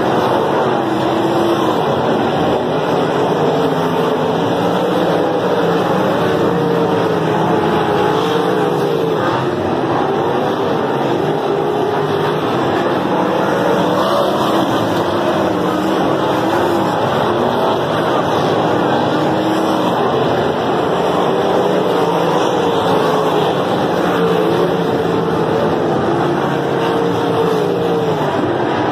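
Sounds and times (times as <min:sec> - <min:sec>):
race car engines roaring: 0:00.0 - 0:28.9.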